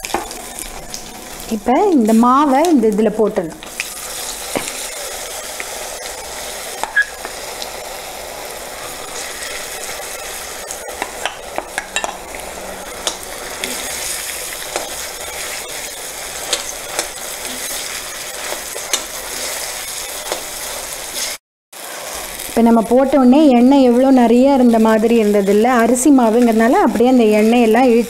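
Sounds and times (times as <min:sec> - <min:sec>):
hot oil sizzling: 0:00.0 - 0:28.0.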